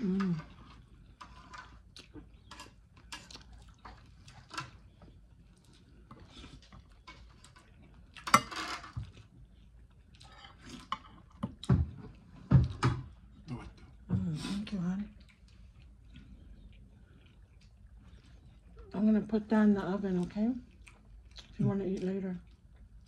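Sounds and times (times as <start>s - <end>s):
wet chewing and mouth clicks: 0.1s - 8.4s, 9.0s - 23.0s.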